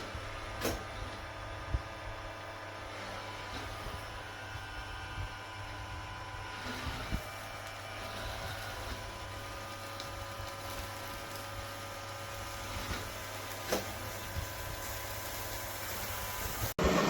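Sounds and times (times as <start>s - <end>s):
robot vacuum motor whine: 2.6s - 17.0s.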